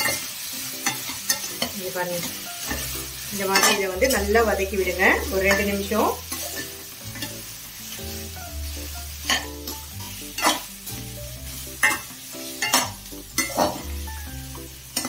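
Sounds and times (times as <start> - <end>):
metal spoon scraping a pan: 0.0 - 14.0
food sizzling in a pan: 0.0 - 15.0.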